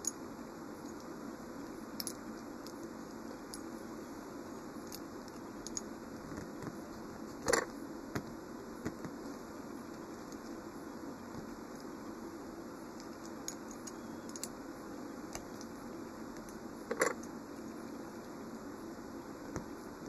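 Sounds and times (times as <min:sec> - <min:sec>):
low background hum: 0:00.0 - 0:20.0
faint clicks and handling noise: 0:00.8 - 0:03.8, 0:04.7 - 0:12.2, 0:12.8 - 0:18.4, 0:19.4 - 0:20.0.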